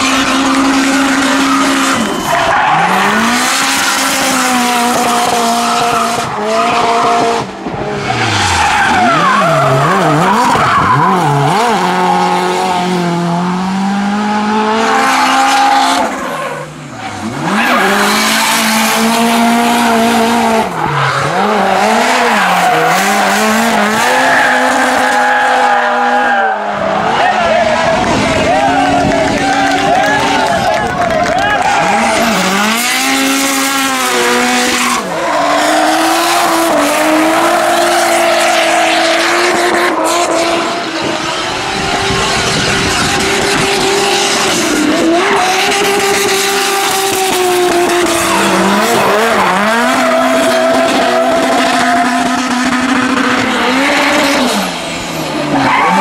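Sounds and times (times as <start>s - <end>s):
car engines revving hard: 0.0s - 56.0s
tyres skidding and squealing: 0.0s - 56.0s.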